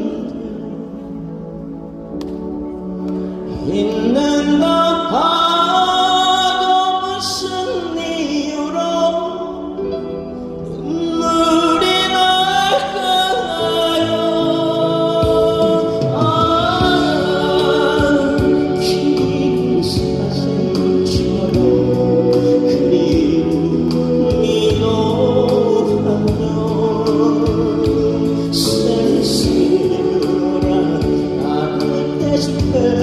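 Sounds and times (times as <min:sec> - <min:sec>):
backing music: 0:00.0 - 0:33.0
person singing a ballad: 0:00.0 - 0:33.0.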